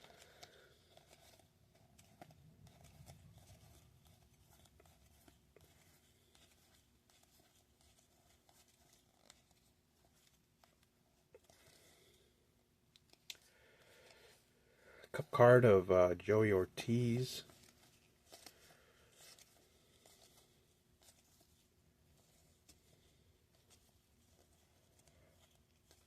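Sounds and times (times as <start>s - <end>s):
trading cards clicking and rustling: 0.0s - 12.2s, 12.9s - 14.3s, 16.2s - 26.0s.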